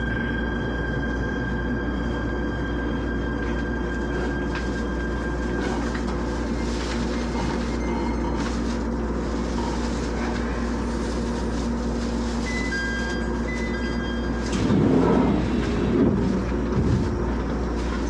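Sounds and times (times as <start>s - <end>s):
train cabin hum and rumble: 0.0s - 18.0s.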